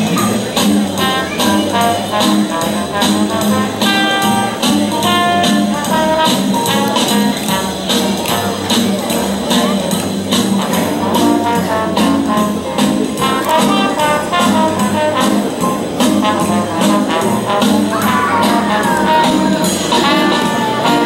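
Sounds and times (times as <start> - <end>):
jazzy instrumental music with brass: 0.0 - 21.0.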